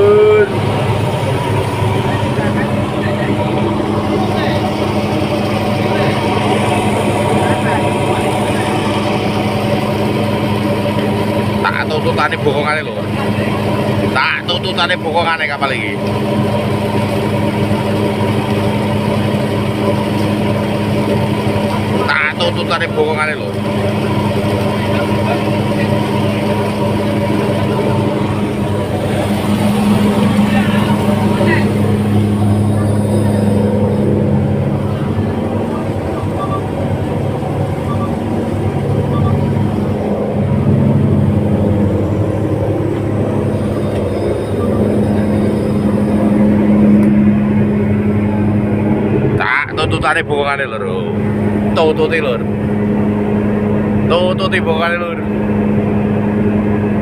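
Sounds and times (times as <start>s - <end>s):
engine humming steadily: 0.0s - 57.0s.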